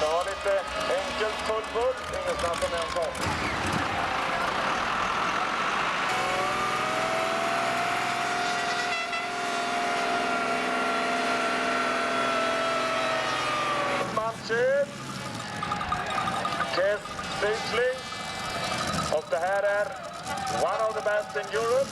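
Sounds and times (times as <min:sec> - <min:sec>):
tractor engine at full power: 0:00.0 - 0:21.9.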